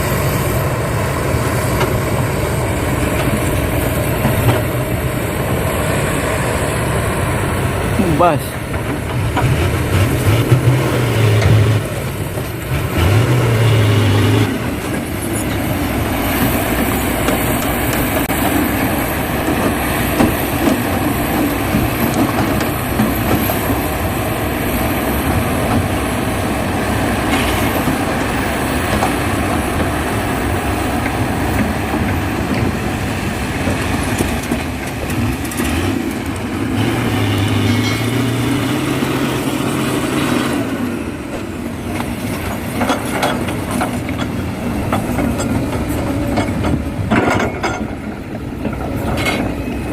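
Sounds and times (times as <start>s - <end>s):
heavy diesel machinery rumbling: 0.0s - 49.9s.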